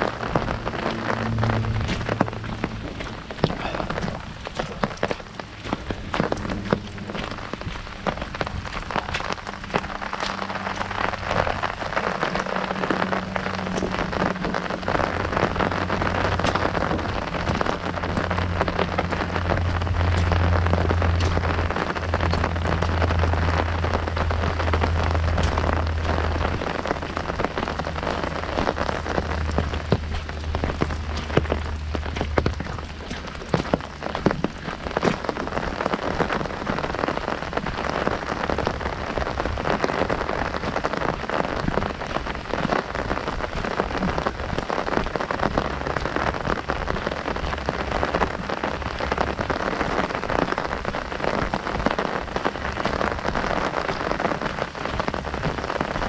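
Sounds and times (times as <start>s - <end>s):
heavy rain on an umbrella: 0.0s - 56.0s
low rumble: 0.0s - 56.0s.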